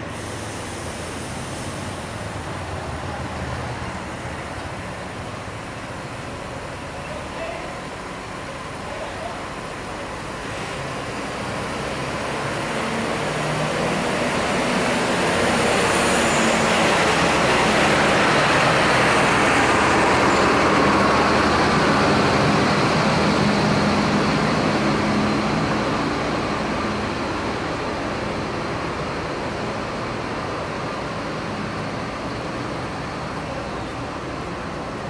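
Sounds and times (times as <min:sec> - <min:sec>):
bus driving past: 0:00.0 - 0:35.0.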